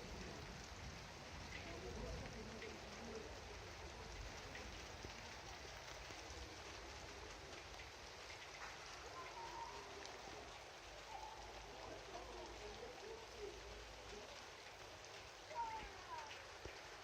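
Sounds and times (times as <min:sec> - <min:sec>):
rain falling: 0:00.0 - 0:17.0
raindrops ticking: 0:00.0 - 0:17.0.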